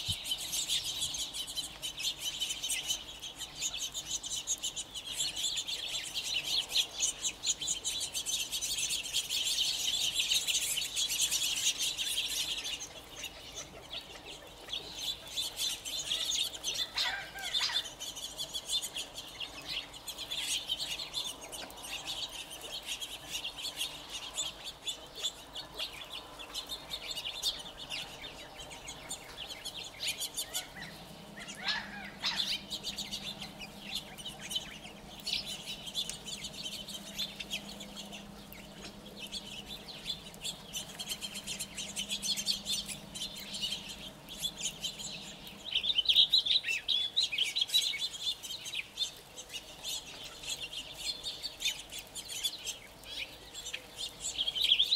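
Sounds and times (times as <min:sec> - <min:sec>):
quail chirping: 0:00.0 - 0:54.9.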